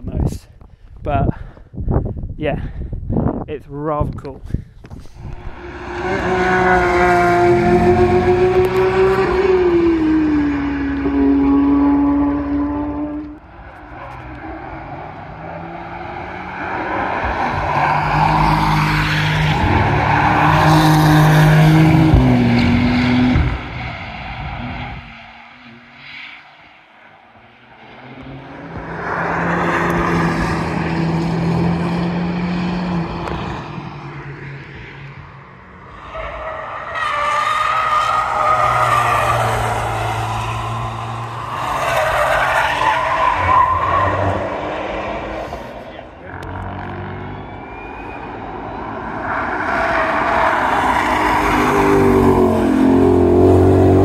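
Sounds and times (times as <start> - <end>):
race cars driving past: 5.2 - 54.0.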